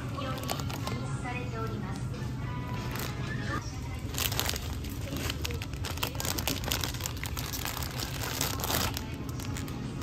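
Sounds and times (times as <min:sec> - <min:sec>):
plastic packaging crinkling: 0:00.0 - 0:01.1, 0:02.8 - 0:10.0.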